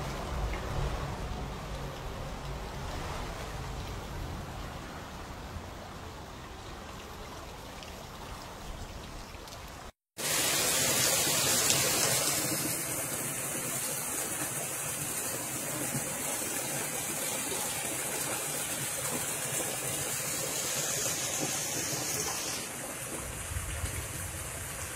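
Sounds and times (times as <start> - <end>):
heavy rain pouring: 0.0 - 7.2, 10.2 - 24.9.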